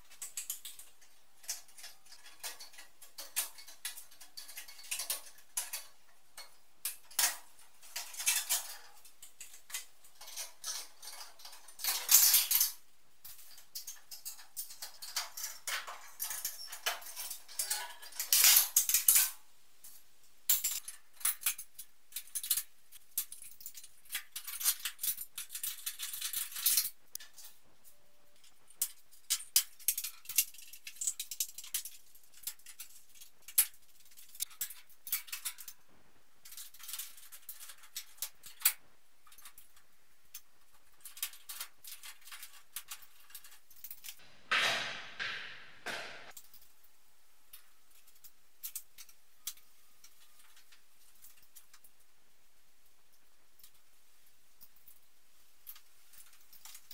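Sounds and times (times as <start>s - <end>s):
light fittings rattling and clicking: 0.0s - 44.2s, 47.5s - 52.0s, 54.5s - 56.9s.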